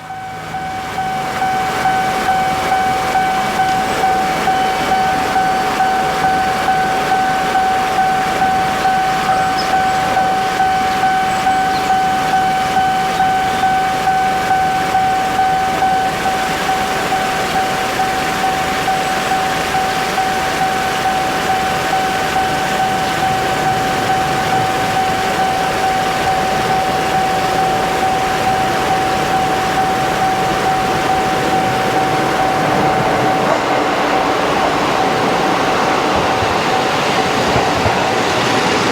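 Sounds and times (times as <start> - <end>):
level-crossing warning bell: 0.0 - 38.9
train passing: 0.0 - 38.9.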